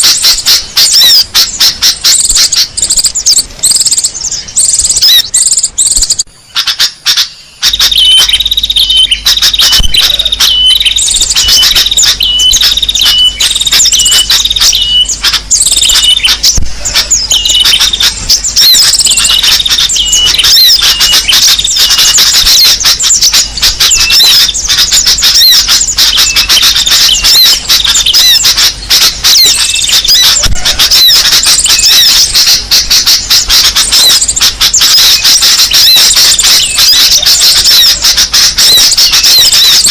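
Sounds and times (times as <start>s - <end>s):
songbirds chirping and calling: 0.0s - 39.9s.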